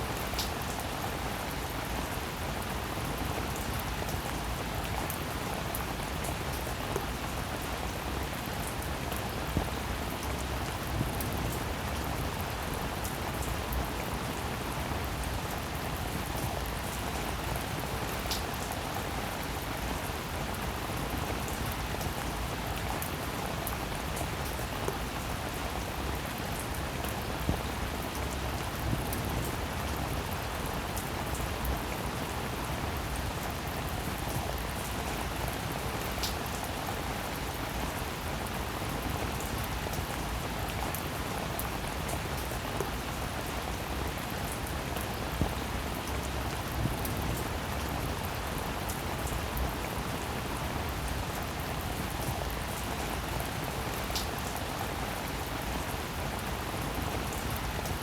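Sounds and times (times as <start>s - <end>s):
raindrops ticking on a surface: 0.0s - 58.0s
steady rain hiss: 0.0s - 58.0s.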